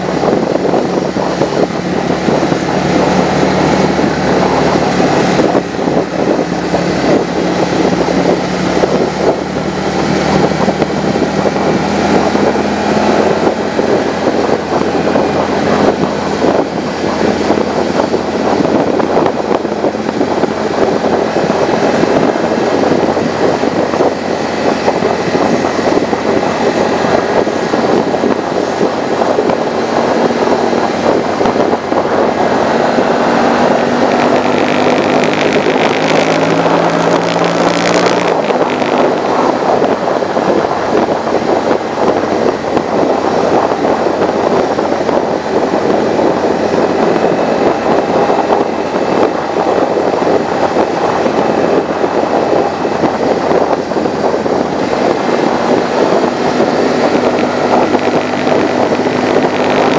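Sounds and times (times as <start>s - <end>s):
motorcycle engine running: 0.0s - 59.9s
wind rush over windscreen: 0.0s - 59.9s.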